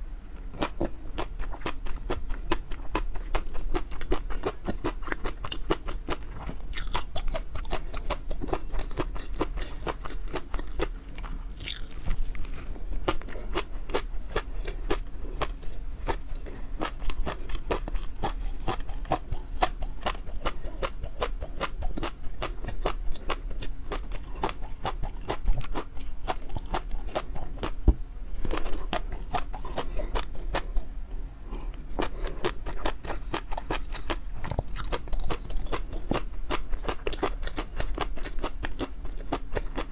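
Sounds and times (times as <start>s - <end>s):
steady low hum: 0.0s - 39.9s
chewing and crunching: 0.5s - 30.9s, 31.5s - 39.9s.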